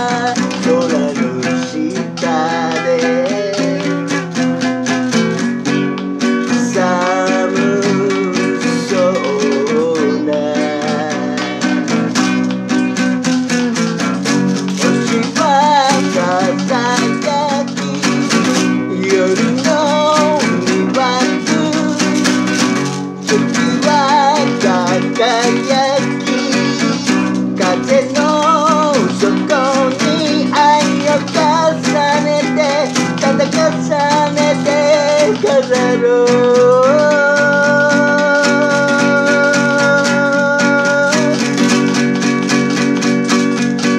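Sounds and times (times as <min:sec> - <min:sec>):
man singing: 0:00.0 - 0:05.4, 0:06.2 - 0:43.9
classical guitar strumming: 0:00.0 - 0:43.9.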